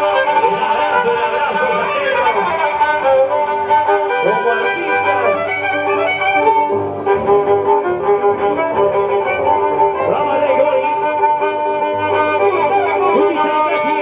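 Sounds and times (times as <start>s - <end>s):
violins playing a melody: 0.0s - 14.0s.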